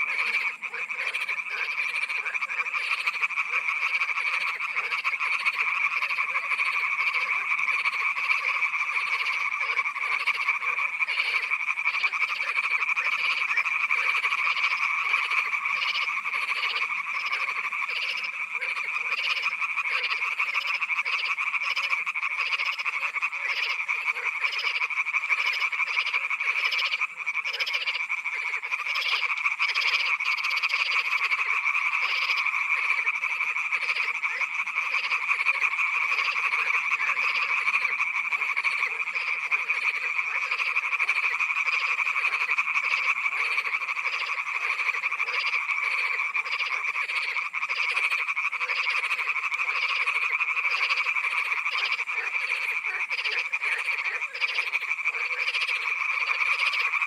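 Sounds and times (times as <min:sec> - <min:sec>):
chorus of frogs croaking: 0:00.0 - 0:57.0.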